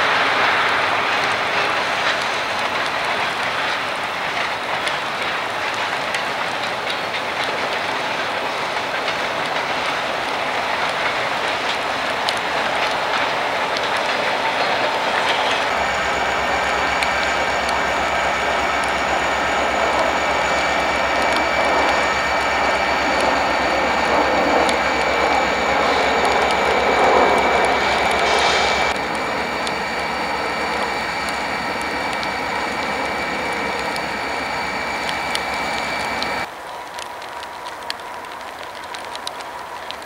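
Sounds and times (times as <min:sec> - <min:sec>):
diesel locomotive engines running: 0:00.0 - 0:40.0.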